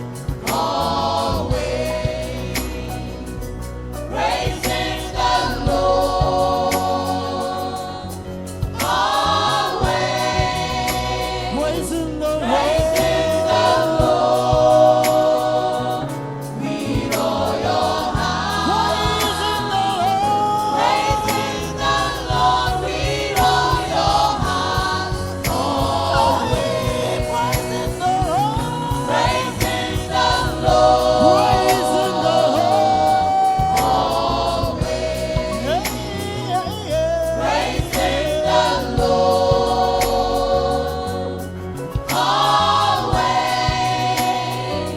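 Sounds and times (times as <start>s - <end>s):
band accompaniment with steady beat: 0.0s - 44.9s
gospel choir singing: 0.0s - 44.9s.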